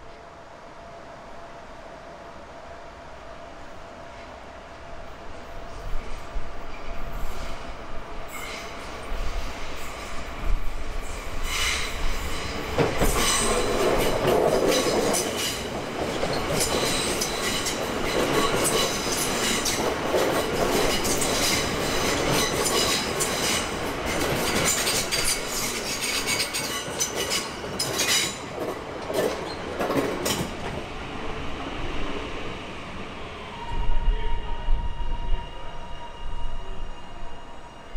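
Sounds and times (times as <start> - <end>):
train passing: 0.0 - 37.9.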